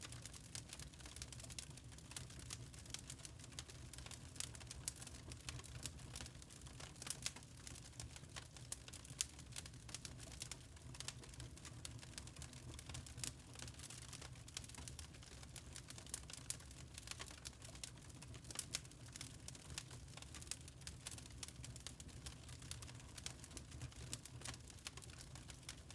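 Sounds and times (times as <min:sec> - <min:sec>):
charcoal crackling: 0:02.1 - 0:25.9.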